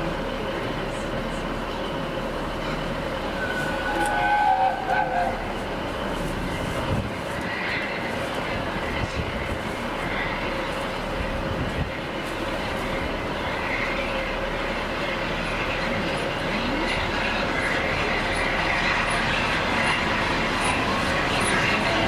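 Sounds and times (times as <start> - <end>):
train wheel and rail noise: 0.0 - 22.0.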